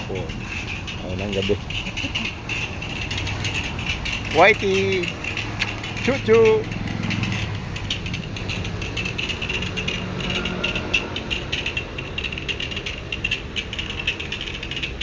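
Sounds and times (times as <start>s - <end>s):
fast mechanical rattle: 0.0s - 15.0s.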